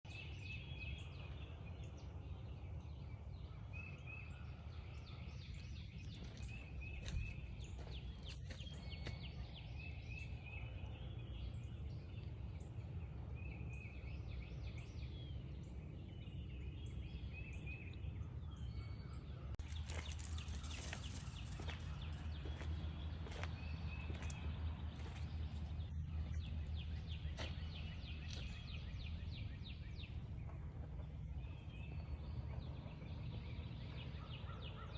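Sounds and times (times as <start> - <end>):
birds calling: 0.1 - 34.9
steady low rumble: 0.1 - 34.9.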